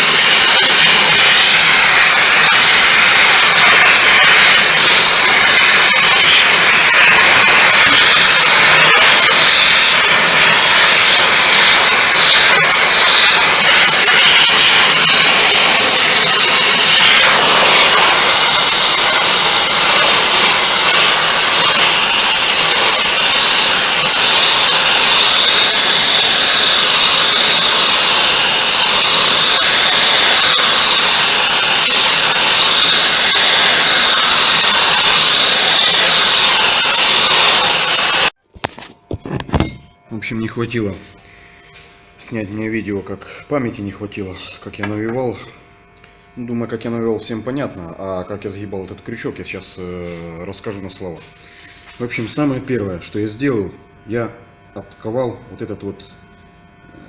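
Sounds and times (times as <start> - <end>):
power tool hissing: 0.0 - 39.7, 48.4 - 56.1.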